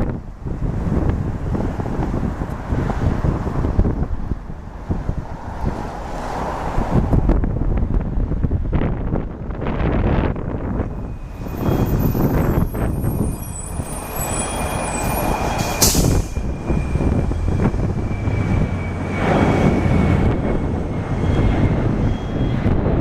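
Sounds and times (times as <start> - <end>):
wind on microphone: 0.0 - 23.0
jet engines roaring with whine: 0.1 - 23.0.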